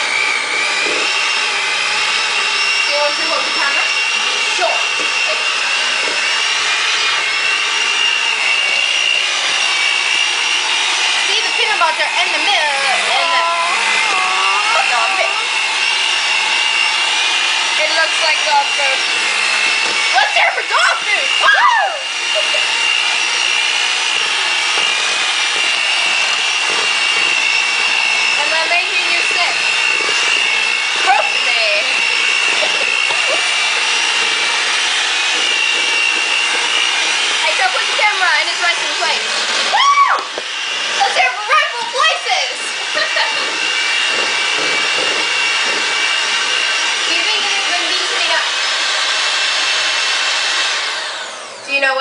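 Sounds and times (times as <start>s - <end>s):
electric mixer motor whine: 0.0s - 52.0s.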